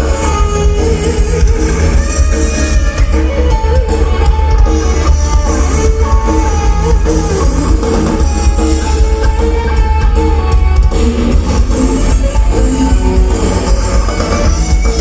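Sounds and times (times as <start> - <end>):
live rock band music: 0.0 - 15.0.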